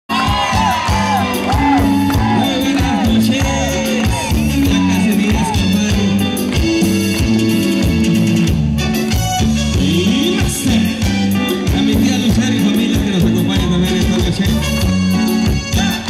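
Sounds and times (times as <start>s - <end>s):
live cumbia band music: 0.1s - 16.0s.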